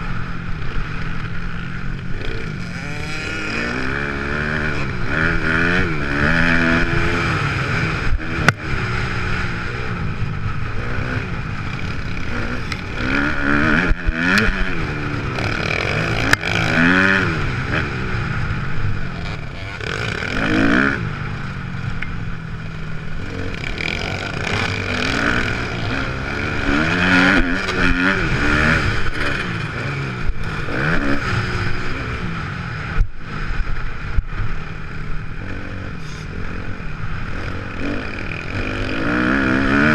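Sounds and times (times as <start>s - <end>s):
motocross engine revving: 1.6s - 34.1s, 34.7s - 39.9s.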